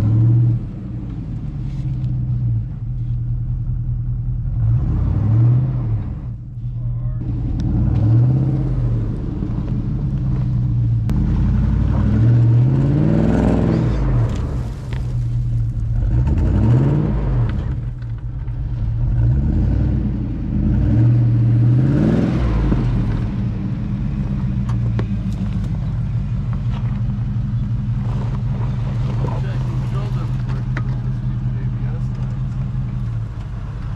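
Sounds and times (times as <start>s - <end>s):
engine revving under load: 0.0s - 2.6s, 4.4s - 6.4s, 7.2s - 33.9s.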